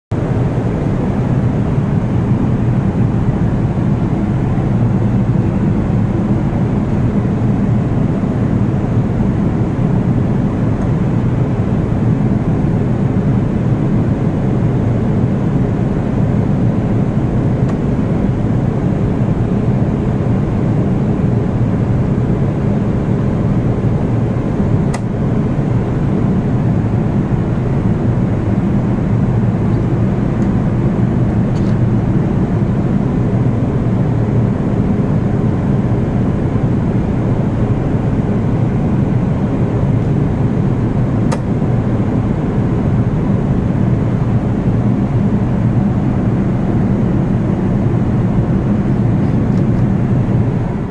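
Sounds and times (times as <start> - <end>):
airliner cabin roar: 0.1 - 50.9.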